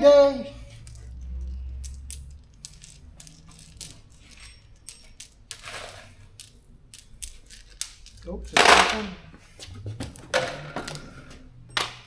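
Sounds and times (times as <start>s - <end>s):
metal bolts clinking: 0.6s - 9.4s, 10.2s - 12.0s.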